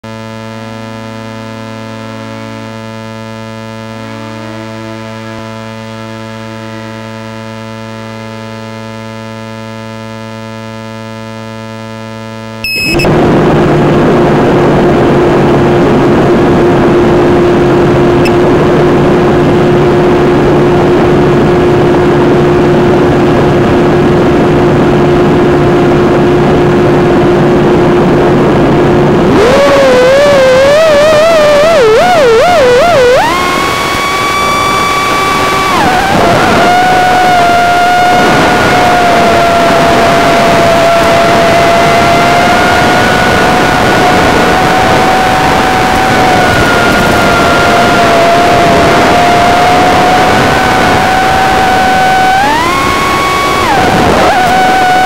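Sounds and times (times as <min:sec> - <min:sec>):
steady multi-tone hum: 0:00.0 - 0:55.0
drone motors whirring and whining: 0:00.1 - 0:55.0.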